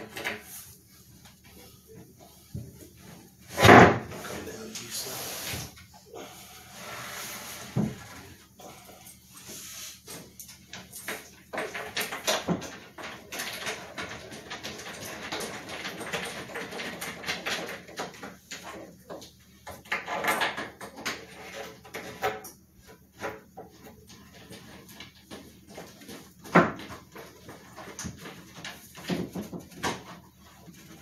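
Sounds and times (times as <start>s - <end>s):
wooden panels knocking and scraping: 1.4s - 4.6s, 7.4s - 8.4s, 10.1s - 31.0s.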